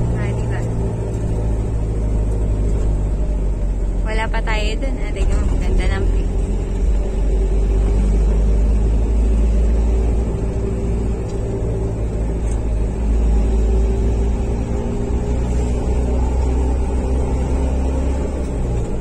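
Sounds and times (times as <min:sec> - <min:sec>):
engine and road noise in van: 0:00.0 - 0:19.0.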